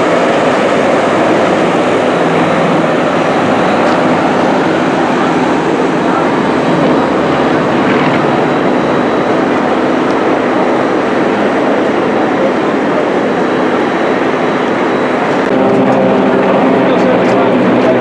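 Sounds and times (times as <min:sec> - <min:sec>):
propeller planes droning overhead: 0:00.0 - 0:18.0.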